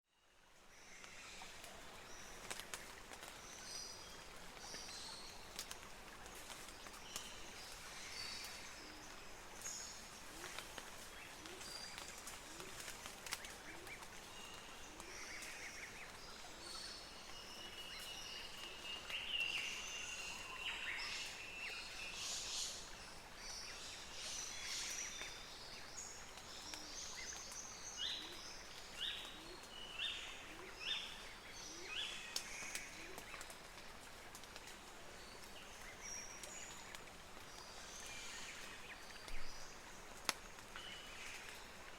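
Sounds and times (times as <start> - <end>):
steady hiss: 0.4 - 41.9.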